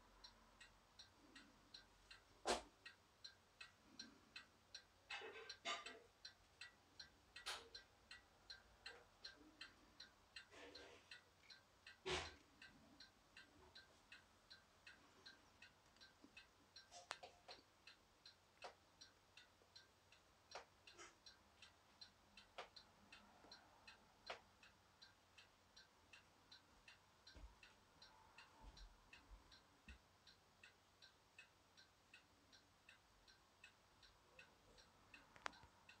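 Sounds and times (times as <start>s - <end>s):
mantel clock ticking: 0.0s - 36.0s.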